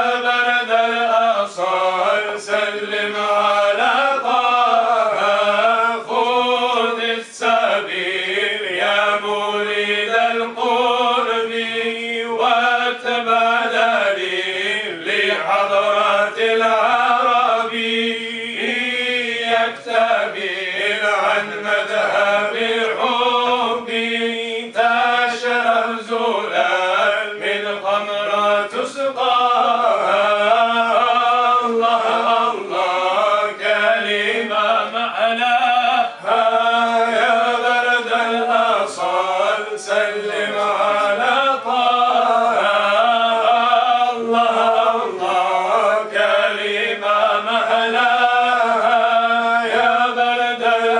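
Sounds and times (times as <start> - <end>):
men chanting through microphones: 0.0 - 50.9.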